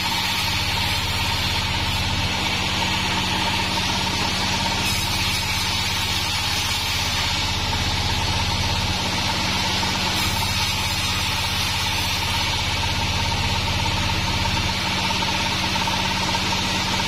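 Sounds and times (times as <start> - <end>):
band saw machine hum: 0.0 - 17.0
hiss of sawing: 0.0 - 17.0
saw blade whine: 0.0 - 17.0.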